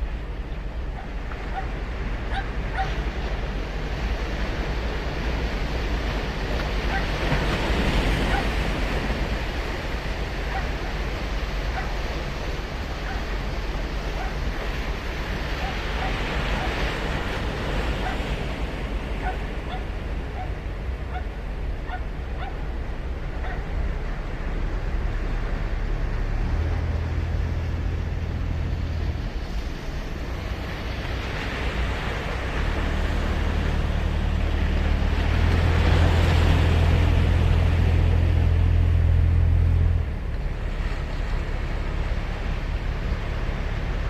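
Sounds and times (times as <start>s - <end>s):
waves breaking on beach: 0.0s - 44.0s.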